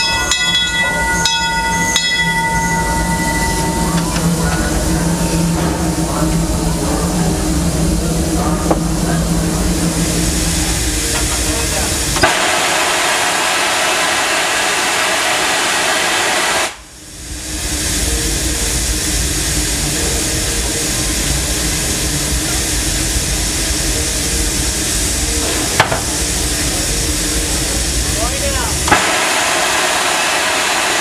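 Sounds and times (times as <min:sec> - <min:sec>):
steam hissing from locomotive: 0:00.0 - 0:31.0.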